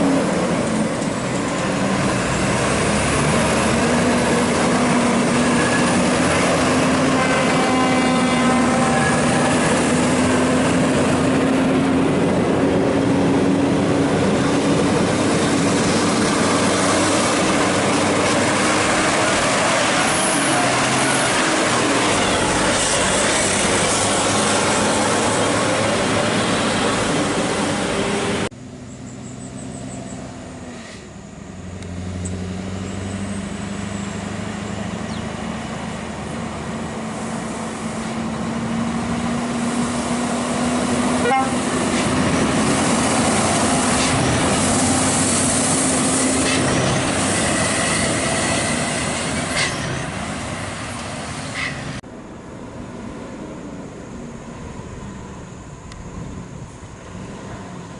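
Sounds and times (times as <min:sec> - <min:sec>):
truck engine under load: 0:00.0 - 0:57.9
tyre and road noise: 0:00.0 - 0:57.9.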